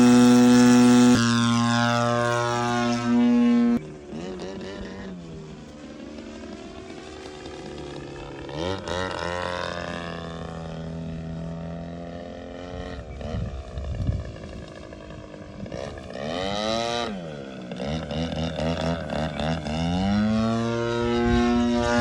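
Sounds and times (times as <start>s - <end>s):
model plane engine in flight: 0.0s - 22.0s.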